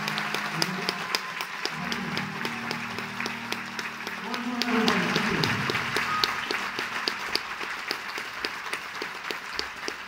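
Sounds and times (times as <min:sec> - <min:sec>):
audience applauding: 0:00.0 - 0:10.0
close hand claps: 0:00.0 - 0:10.0.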